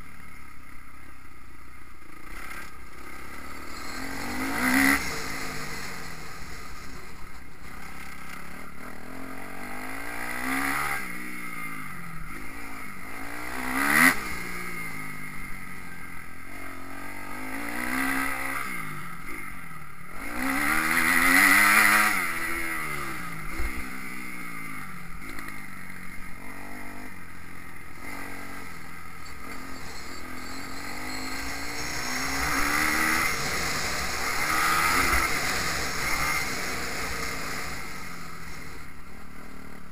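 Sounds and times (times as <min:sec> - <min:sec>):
motocross bike engine revving: 0:02.0 - 0:39.9.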